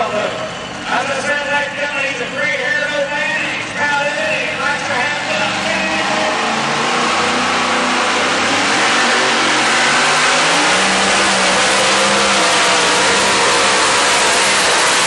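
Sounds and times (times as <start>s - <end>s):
truck engine at full throttle: 0.0s - 15.0s.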